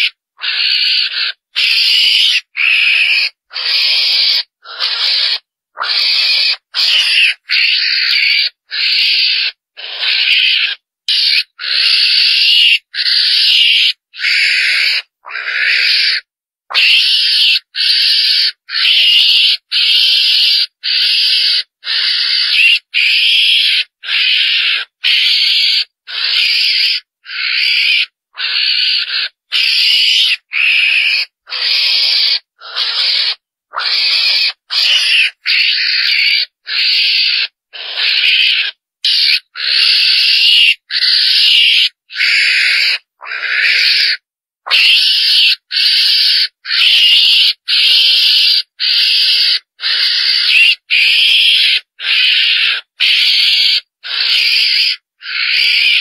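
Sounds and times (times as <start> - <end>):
mongoose harsh raspy squeals: 0.0 - 56.0.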